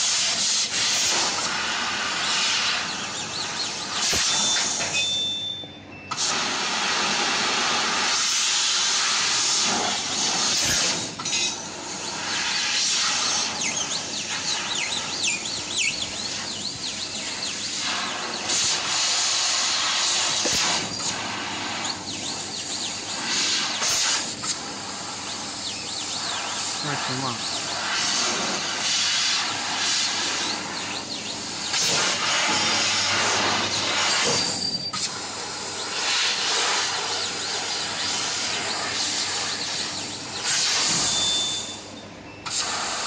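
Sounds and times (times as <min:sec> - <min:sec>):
assist gas hissing: 0:00.0 - 0:04.8, 0:06.1 - 0:41.9
machine whines: 0:00.0 - 0:06.3, 0:08.1 - 0:42.6.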